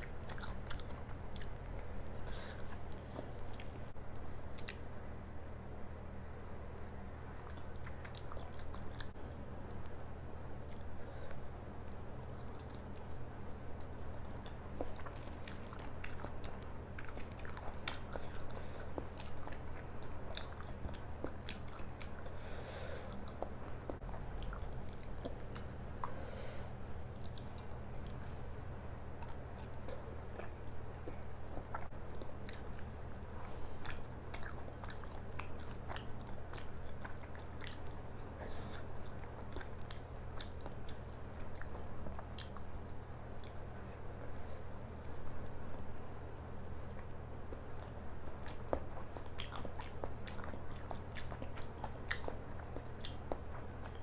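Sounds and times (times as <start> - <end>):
mouth chewing food wetly: 0.0 - 4.9, 7.3 - 9.2, 10.6 - 54.0.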